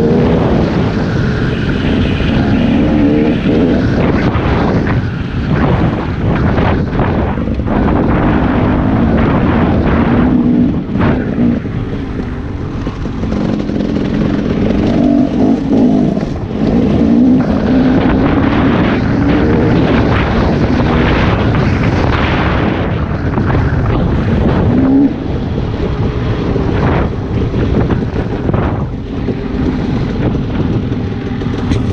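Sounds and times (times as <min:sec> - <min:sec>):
dirt bike engine revving: 0:00.0 - 0:25.7, 0:29.4 - 0:31.9
wind noise on microphone: 0:00.0 - 0:31.9.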